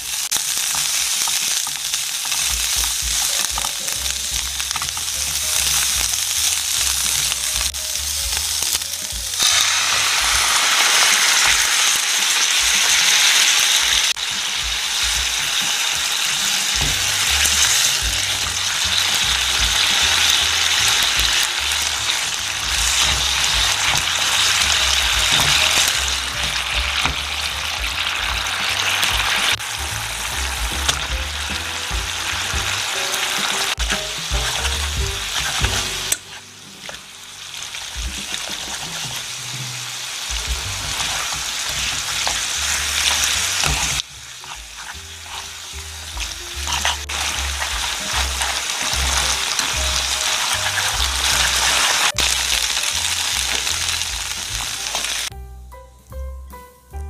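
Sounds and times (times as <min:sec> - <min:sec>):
chicken sizzling in oil: 0:00.0 - 0:55.3
sauce sizzling in hot pan: 0:00.0 - 0:55.3
spatula stirring in pan: 0:09.3 - 0:55.1.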